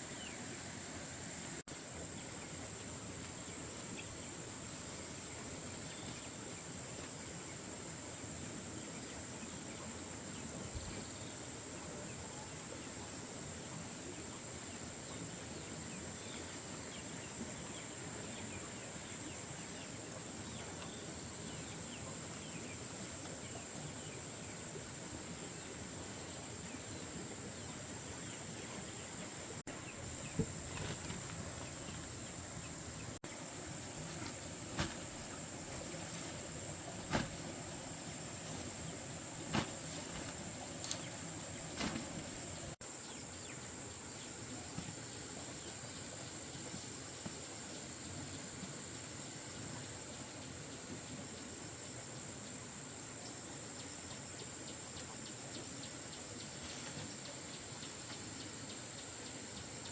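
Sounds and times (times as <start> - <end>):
outdoor ambience: 0.0 - 59.9.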